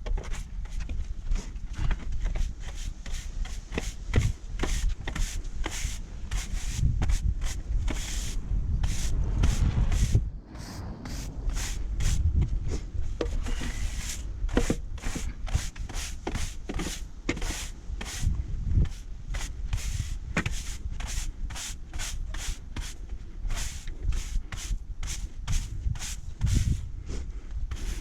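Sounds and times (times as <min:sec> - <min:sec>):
stiff broom sweeping sand on paving: 0:02.3 - 0:28.0.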